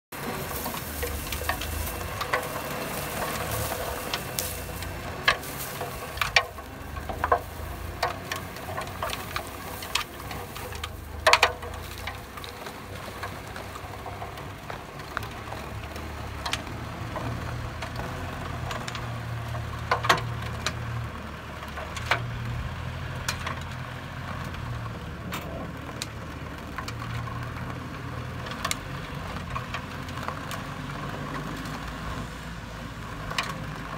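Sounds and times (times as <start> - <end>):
truck engine humming: 0.1 - 33.9
sharp clicks and ticks: 0.2 - 31.9.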